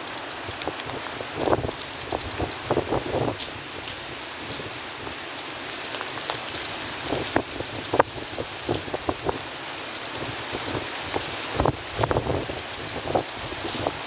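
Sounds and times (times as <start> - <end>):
wind-driven rain: 0.0 - 14.0.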